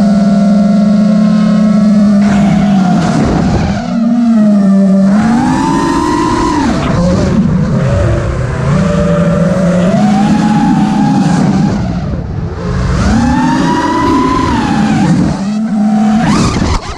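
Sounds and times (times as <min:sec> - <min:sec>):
drone motors whining: 0:00.0 - 0:16.9.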